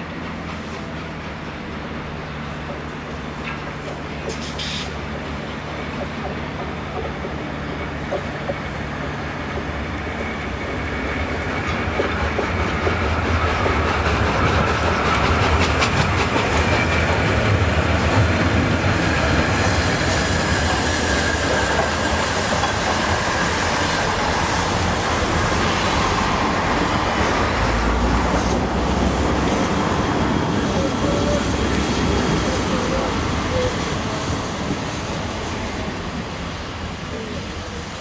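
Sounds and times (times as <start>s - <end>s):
steam locomotive passing: 0.0s - 38.0s
train wheels rumbling: 0.0s - 38.0s.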